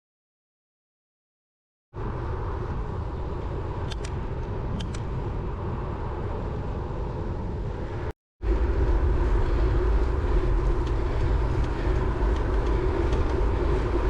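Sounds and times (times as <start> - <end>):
wind and road rumble: 2.0 - 14.0.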